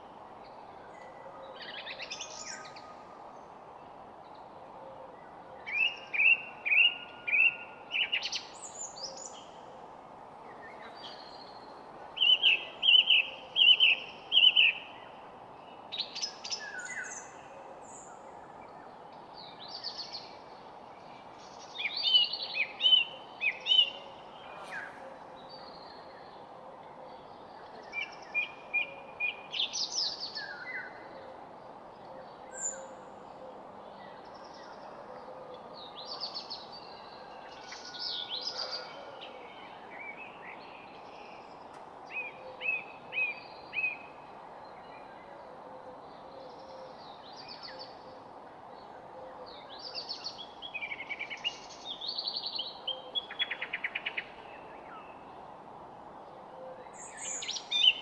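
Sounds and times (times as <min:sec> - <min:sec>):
background hiss: 0:00.0 - 0:26.6, 0:35.6 - 0:58.0
songbirds chirping: 0:00.0 - 0:58.0.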